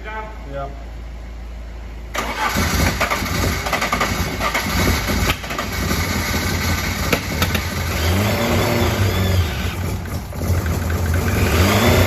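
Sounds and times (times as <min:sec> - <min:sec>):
car engine revving: 0:02.1 - 0:12.0.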